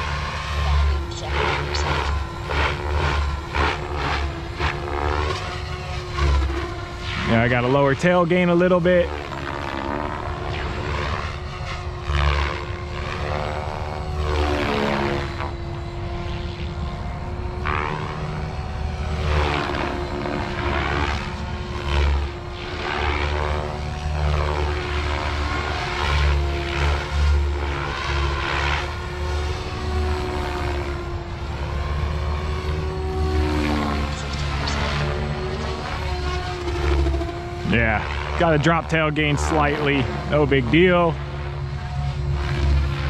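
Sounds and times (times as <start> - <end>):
rc helicopter rotor whine: 0.0 - 43.0.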